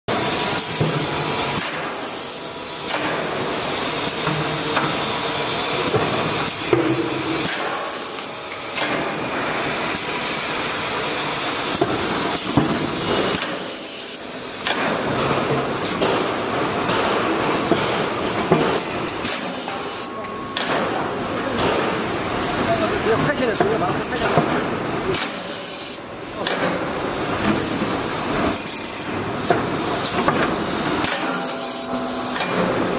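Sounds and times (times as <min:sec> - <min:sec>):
machine spraying hiss: 0:00.6 - 0:04.7, 0:05.8 - 0:10.6, 0:11.3 - 0:15.1, 0:15.8 - 0:29.1, 0:29.9 - 0:32.9.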